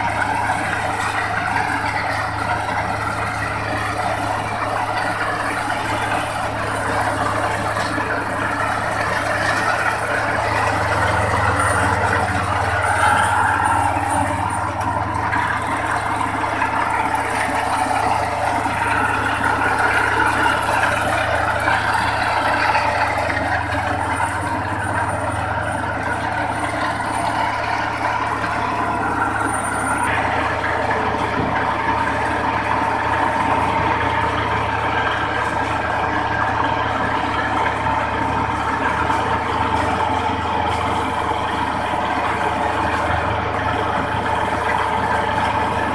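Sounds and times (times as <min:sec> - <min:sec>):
combine harvester engine hum: 0:00.0 - 0:45.9
machinery din: 0:00.0 - 0:45.9.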